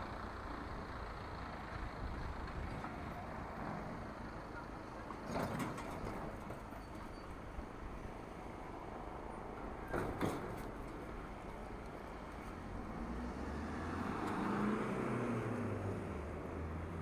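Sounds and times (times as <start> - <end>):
street traffic noise: 0.0 - 17.0
vehicle engine hum: 0.0 - 17.0.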